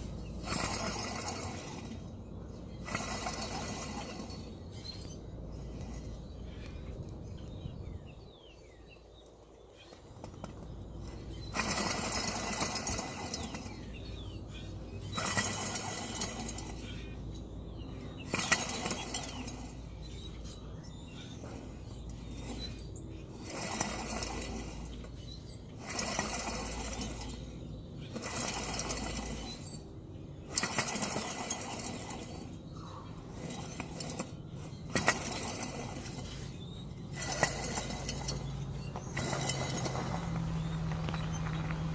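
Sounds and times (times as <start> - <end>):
metallic grinding and scraping: 0.0 - 7.4, 9.8 - 41.9.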